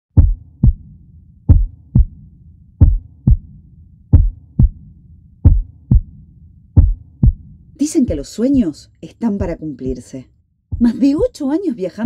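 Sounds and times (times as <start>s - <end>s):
heartbeat thumps: 0.1s - 10.1s, 10.7s - 11.5s.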